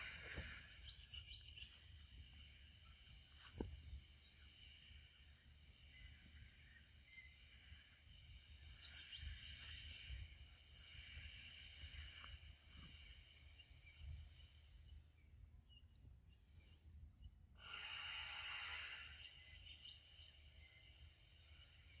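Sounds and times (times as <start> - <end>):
high-pitched insect drone: 0.0 - 15.1, 15.8 - 22.0.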